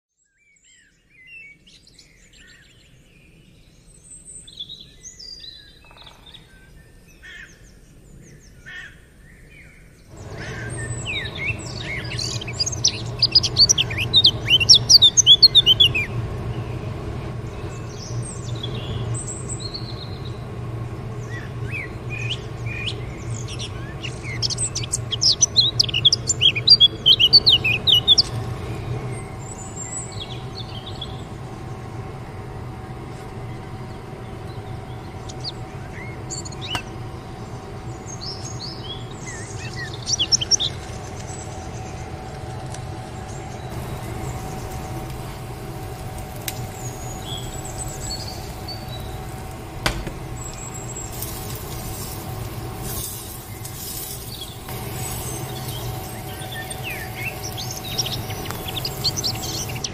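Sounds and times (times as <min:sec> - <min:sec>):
small birds chirping: 0:09.3 - 0:32.2, 0:32.8 - 0:42.4, 0:43.0 - 0:59.9
steady low rumble: 0:10.1 - 0:59.9.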